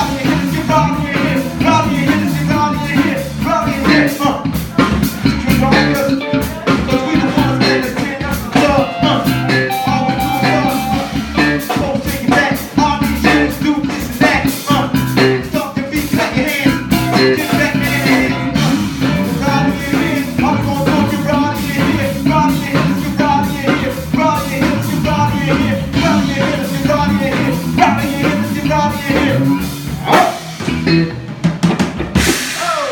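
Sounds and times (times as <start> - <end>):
bass: 0.0 - 32.9
drums: 0.0 - 32.9
guitar: 0.0 - 32.9.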